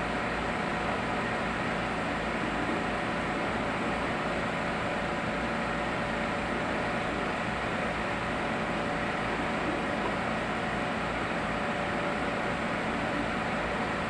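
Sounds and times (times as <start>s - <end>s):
equipment hum and hiss: 0.0s - 14.0s.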